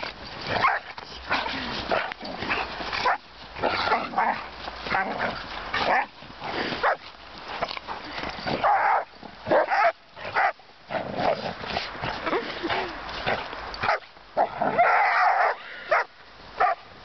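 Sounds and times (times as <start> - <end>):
dogs barking and yipping: 0.0 - 16.9.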